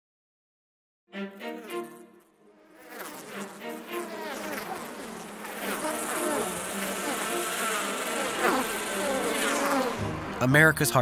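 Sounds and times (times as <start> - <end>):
swarm of bees buzzing: 1.2 - 10.5
single bees passing close: 1.4 - 10.4.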